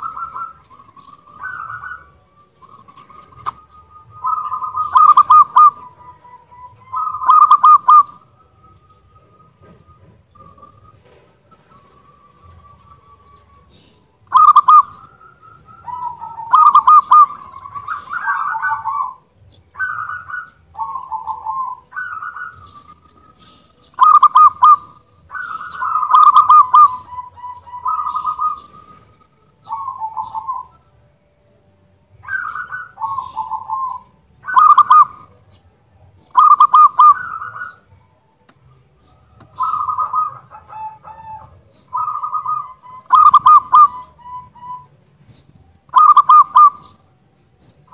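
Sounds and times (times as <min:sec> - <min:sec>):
dove cooing: 0:00.0 - 0:30.8, 0:32.2 - 0:38.2, 0:39.0 - 0:47.9.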